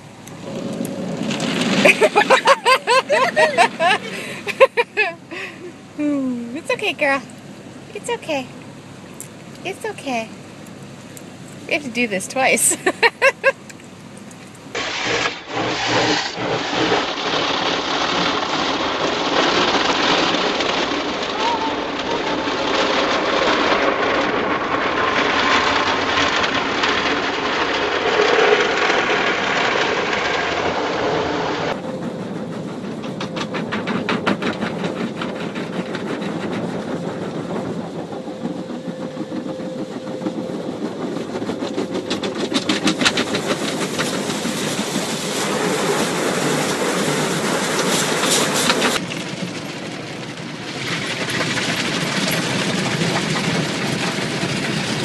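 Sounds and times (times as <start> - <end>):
car wash water jets and brushes: 0.0 - 55.0.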